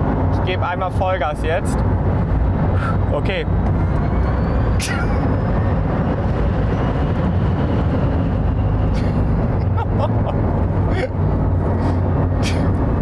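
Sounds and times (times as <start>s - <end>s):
car cabin road and wind rumble: 0.0s - 13.0s.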